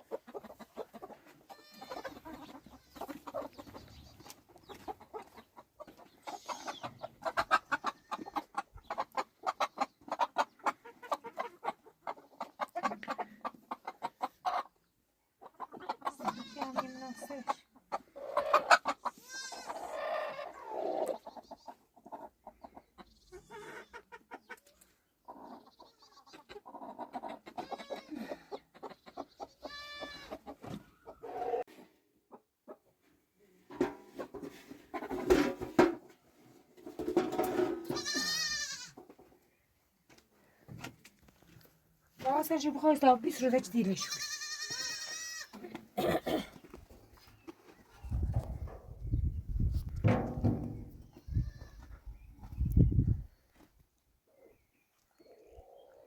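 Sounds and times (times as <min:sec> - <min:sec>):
chickens clucking: 0:00.0 - 0:40.8, 0:44.6 - 0:53.6, 0:54.3 - 0:56.0.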